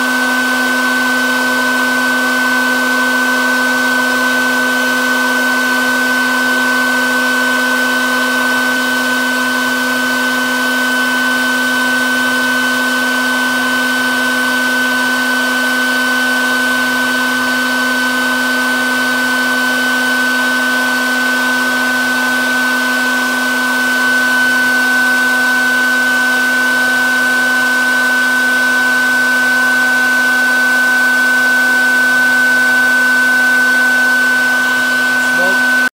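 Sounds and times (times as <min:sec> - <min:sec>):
vacuum motor hum with whine: 0:00.0 - 0:35.9.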